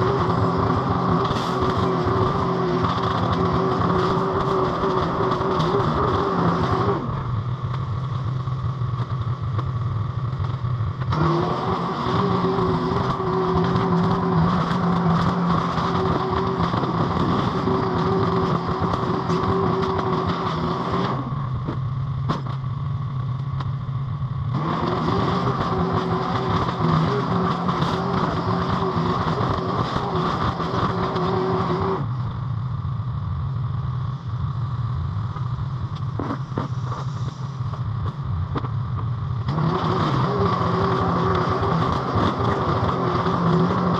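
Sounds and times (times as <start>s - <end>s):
skid steer engine running: 0.0s - 43.9s.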